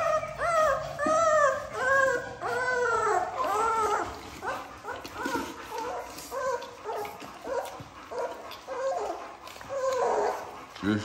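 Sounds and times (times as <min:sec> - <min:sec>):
puppies whimpering and yipping: 0:00.0 - 0:11.0.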